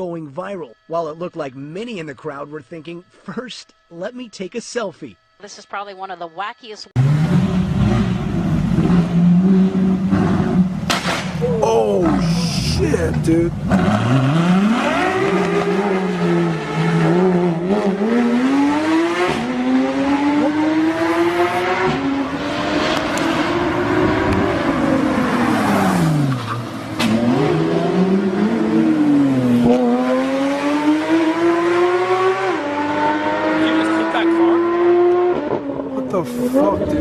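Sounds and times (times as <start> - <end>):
sports car engine revving: 7.0 - 37.0.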